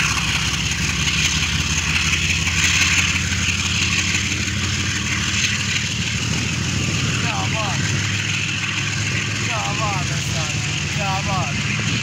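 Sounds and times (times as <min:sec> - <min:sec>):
locomotive engine running: 0:00.0 - 0:12.0.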